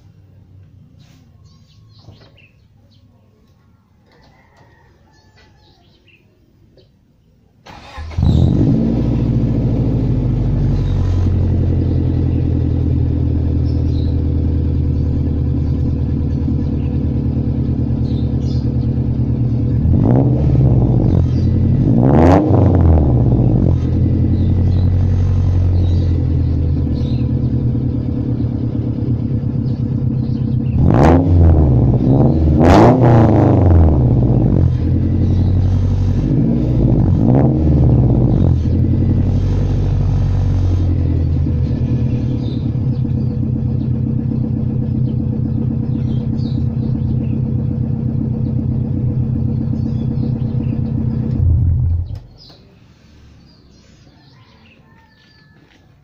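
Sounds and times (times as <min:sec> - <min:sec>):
car engine idling and revving: 0:07.7 - 0:53.2.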